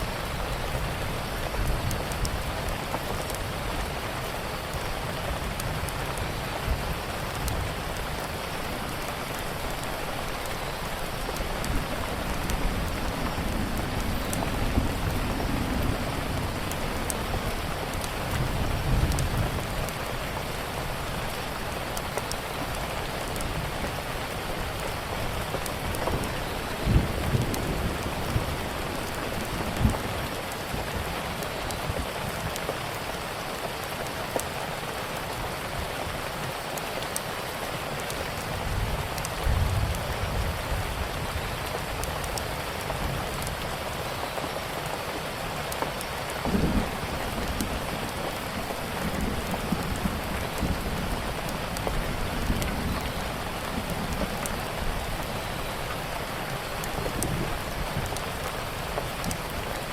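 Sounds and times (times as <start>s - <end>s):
rain pattering: 0.0s - 59.9s
wood fire crackles: 0.0s - 59.9s.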